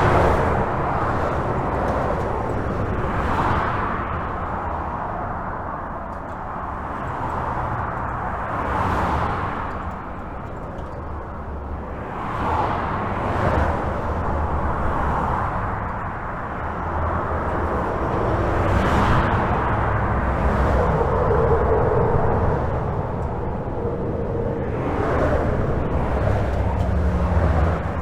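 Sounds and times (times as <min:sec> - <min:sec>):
highway traffic rumble: 0:00.0 - 0:28.0
vehicle hum: 0:00.0 - 0:28.0
vehicles passing: 0:00.0 - 0:28.0.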